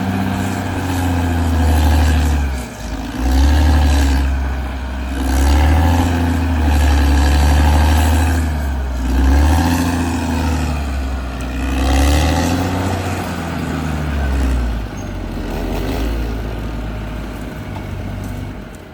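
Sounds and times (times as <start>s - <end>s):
bulldozer diesel engine under load: 0.0s - 18.9s.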